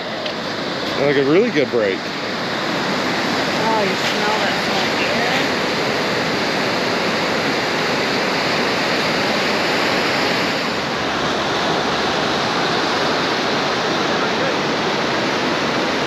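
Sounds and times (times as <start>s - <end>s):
surf breaking on rocks: 0.3s - 16.0s.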